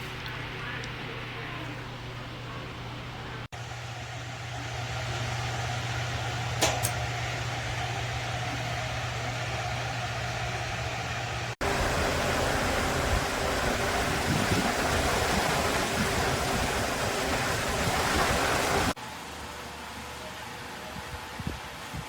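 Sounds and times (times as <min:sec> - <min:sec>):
electric fan air rush: 0:00.0 - 0:22.0
fan motor hum: 0:00.0 - 0:22.0.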